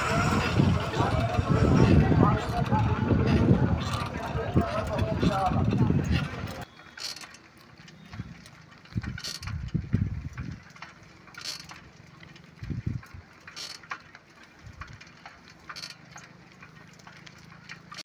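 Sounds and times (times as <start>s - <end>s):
bicycle rattle: 0.0s - 18.0s
bicycle rumbling and thumping: 0.0s - 18.0s.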